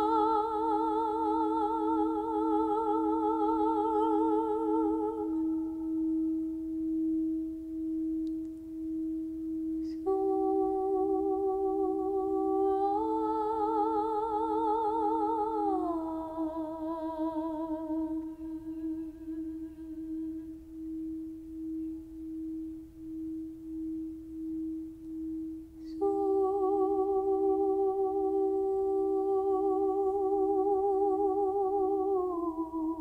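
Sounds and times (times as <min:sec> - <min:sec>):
singing bowl tone: 0:00.0 - 0:33.0.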